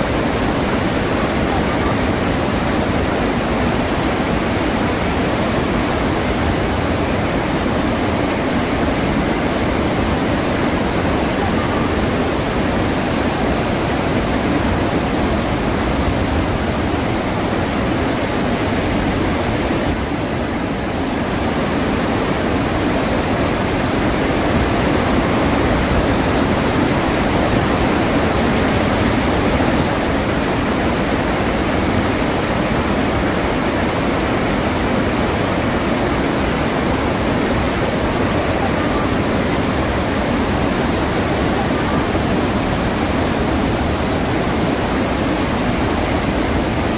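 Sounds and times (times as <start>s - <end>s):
huge waterfall rushing: 0.0s - 46.9s.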